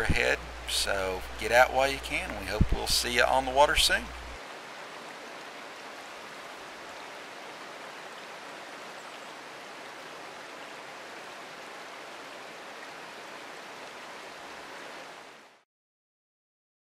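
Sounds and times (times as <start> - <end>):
stream rushing over boulders: 0.0 - 15.6.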